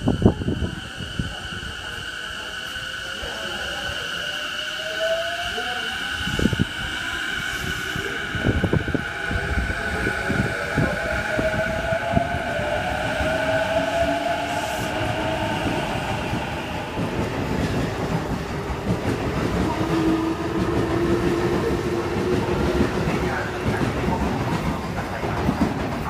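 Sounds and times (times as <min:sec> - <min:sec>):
steady tone: 0:00.0 - 0:24.5
electric train running past: 0:00.0 - 0:26.0.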